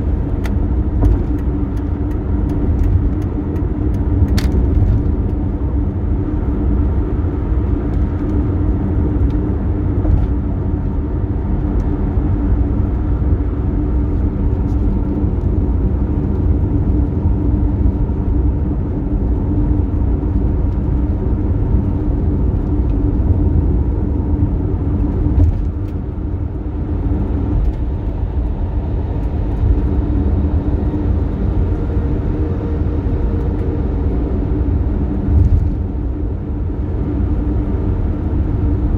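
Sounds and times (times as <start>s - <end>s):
car road and engine drone: 0.0s - 38.9s.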